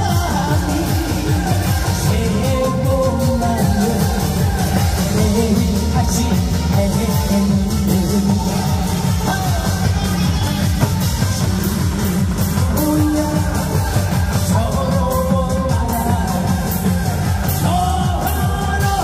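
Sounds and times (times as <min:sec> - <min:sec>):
amplified music with singing: 0:00.0 - 0:19.0.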